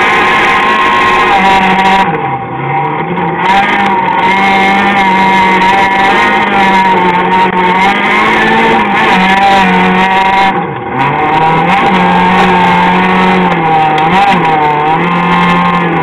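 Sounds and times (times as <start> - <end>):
car engine at high revs: 0.0 - 16.0.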